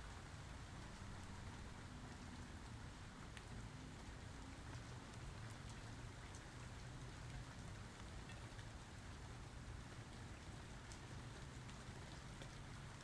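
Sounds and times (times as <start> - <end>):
faint steady rain: 0.0 - 13.0.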